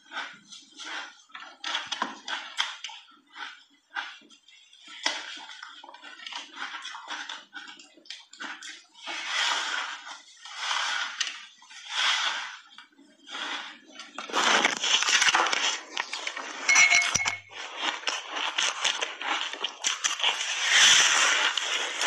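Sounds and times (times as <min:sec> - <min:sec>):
chewing crunchy ice: 0:00.0 - 0:16.7, 0:17.4 - 0:22.0.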